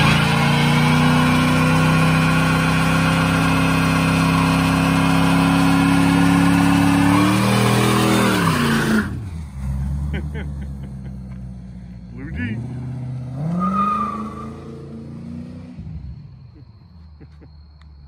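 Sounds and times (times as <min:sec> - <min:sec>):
car engine at high revs: 0:00.0 - 0:16.3.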